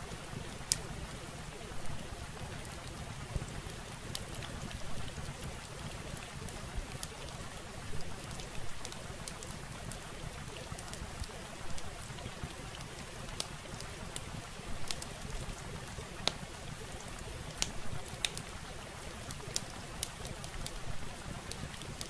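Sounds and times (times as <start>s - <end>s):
small clicks and crackles: 0.0s - 22.0s.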